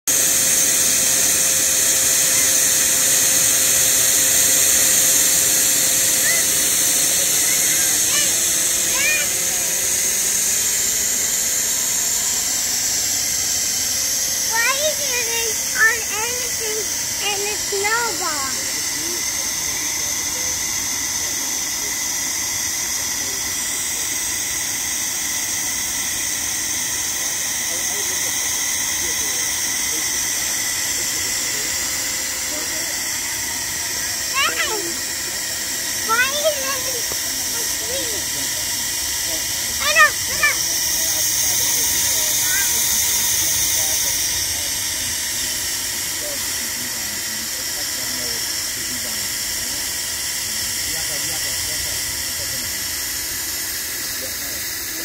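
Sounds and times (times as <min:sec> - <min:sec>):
snow machine blower hissing: 0:00.0 - 0:55.0.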